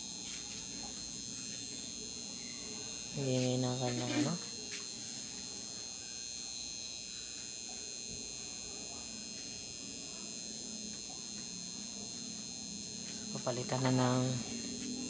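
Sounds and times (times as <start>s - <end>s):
voltage regulator humming and buzzing: 0.0s - 15.0s.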